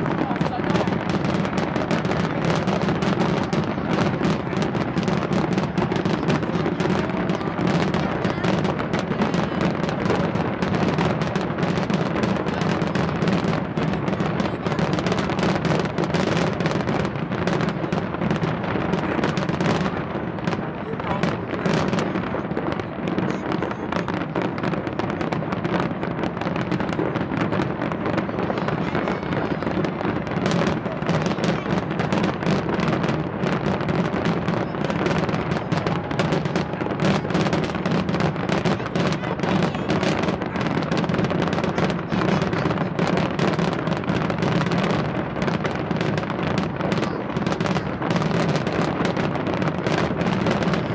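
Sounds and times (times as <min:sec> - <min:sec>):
fireworks crackles and bangs: 0:00.0 - 0:50.9.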